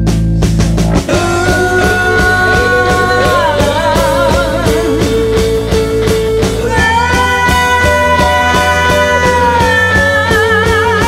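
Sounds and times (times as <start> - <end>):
psychedelic rock band music: 0.0 - 11.0
steady drum beat: 0.0 - 11.0
held lead guitar notes: 0.4 - 11.0.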